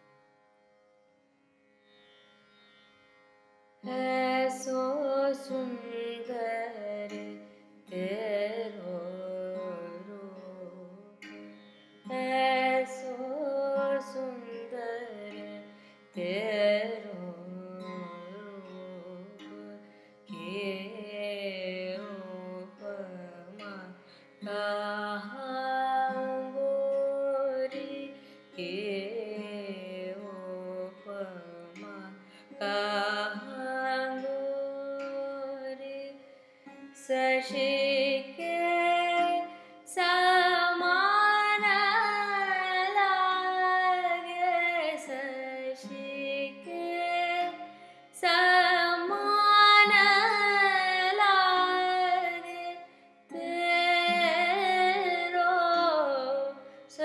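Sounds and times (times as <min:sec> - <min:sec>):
woman singing wordlessly: 0:03.8 - 0:11.3, 0:12.0 - 0:15.6, 0:16.2 - 0:36.2, 0:37.0 - 0:57.0.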